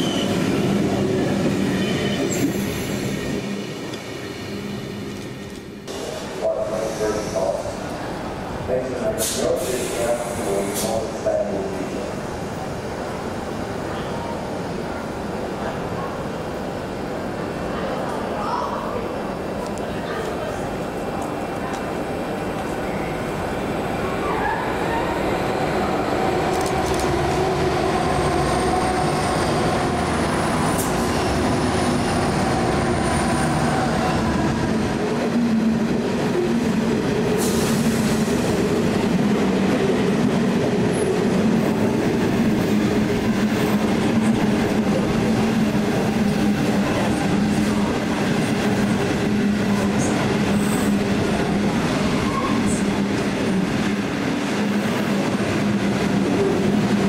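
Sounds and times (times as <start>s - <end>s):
train running on rails: 0.0s - 57.0s.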